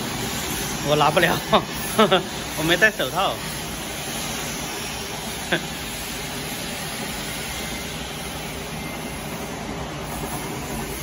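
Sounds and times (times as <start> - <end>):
furnace fans humming: 0.0 - 11.0.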